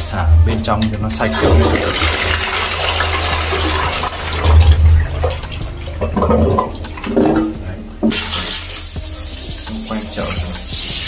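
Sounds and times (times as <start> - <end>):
squat toilet flushing: 0.6 - 11.0.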